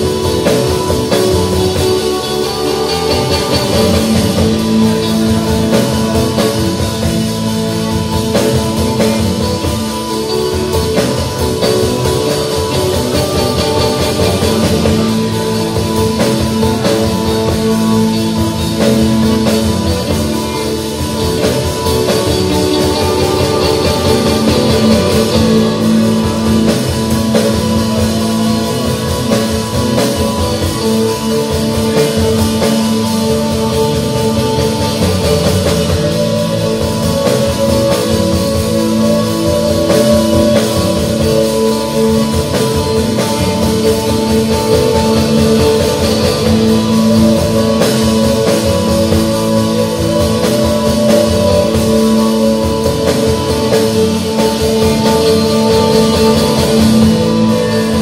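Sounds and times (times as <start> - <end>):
long held guitar notes: 0.0 - 58.0
rock band playing: 0.0 - 58.0.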